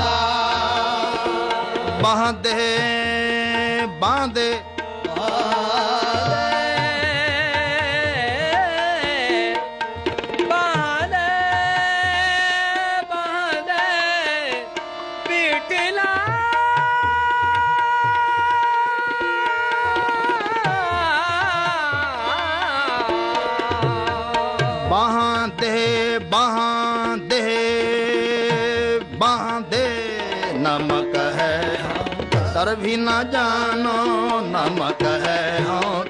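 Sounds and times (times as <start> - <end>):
tabla: 0.0 - 36.0.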